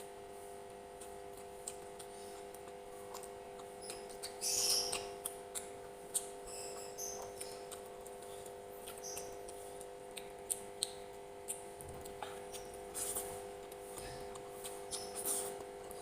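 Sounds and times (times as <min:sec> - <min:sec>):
low electrical hum: 0:00.0 - 0:16.0
person chewing and mouth smacks: 0:00.1 - 0:16.0.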